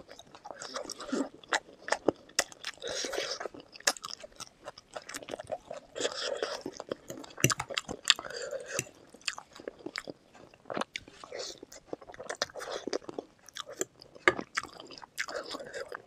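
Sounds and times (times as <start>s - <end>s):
chewing and biting food: 0.0s - 16.0s
food crunching: 0.0s - 16.0s.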